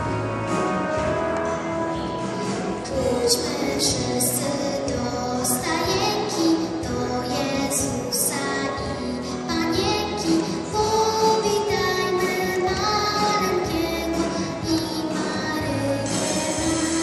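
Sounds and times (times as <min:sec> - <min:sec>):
girl singing into microphone: 0:02.8 - 0:17.0.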